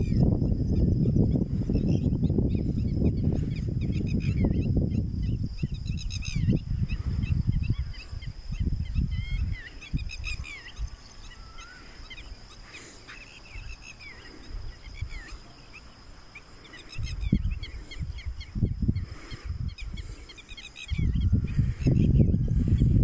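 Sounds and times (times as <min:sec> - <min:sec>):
small birds chirping: 0:00.0 - 0:23.0
wind gusting across microphone: 0:00.0 - 0:23.0.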